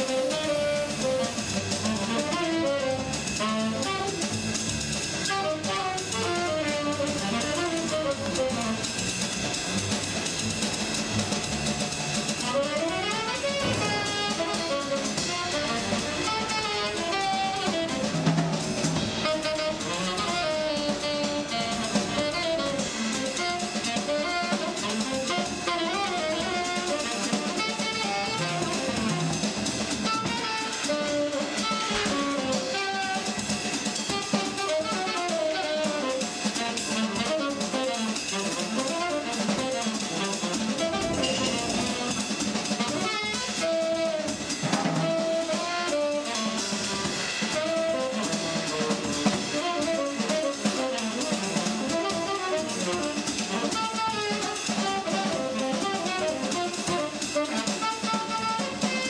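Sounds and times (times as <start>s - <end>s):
instrumental music with guitar and drums: 0.0s - 59.0s.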